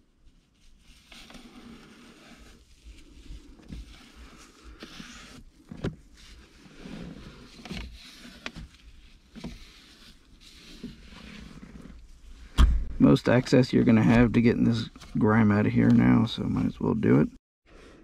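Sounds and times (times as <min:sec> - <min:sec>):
paper wipe scrubbing plastic: 0:00.2 - 0:16.2.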